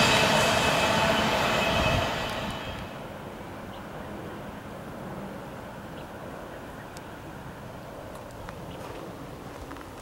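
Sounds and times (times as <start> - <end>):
freight train rumble: 0.0 - 10.0.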